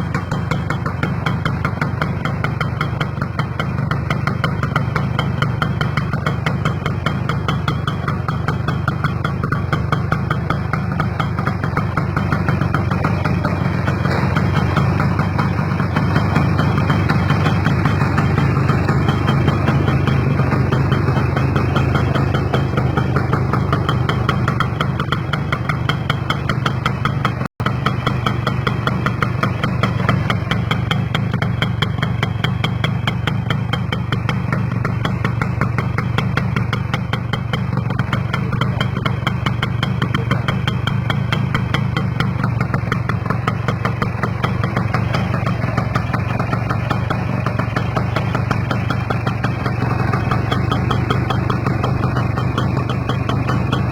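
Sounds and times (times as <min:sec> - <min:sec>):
motorcycle engine idling: 0:00.0 - 0:53.9.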